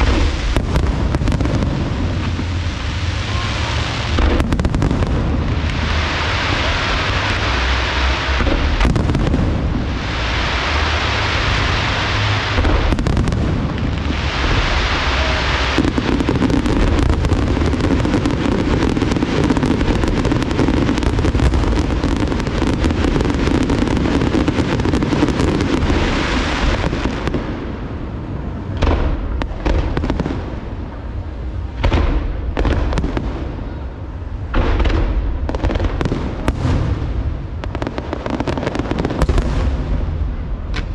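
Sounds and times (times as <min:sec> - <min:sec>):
fireworks booming and crackling: 0:00.0 - 0:40.9.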